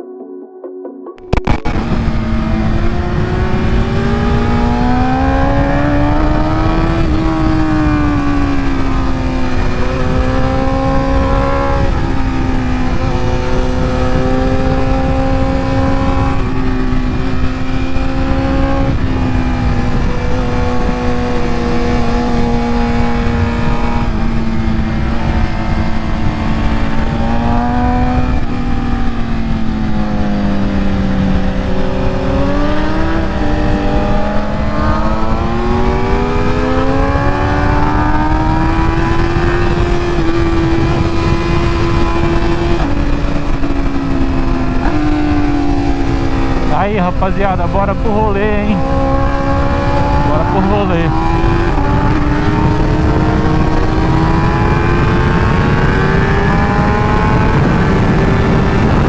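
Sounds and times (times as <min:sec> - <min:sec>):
wind rush on microphone: 0:01.3 - 0:59.0
motorcycle engine at high revs: 0:01.4 - 0:59.0.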